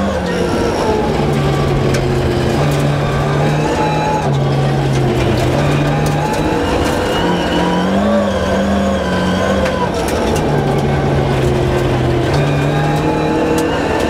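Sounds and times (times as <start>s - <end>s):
car engine from inside cabin: 0.0s - 14.0s.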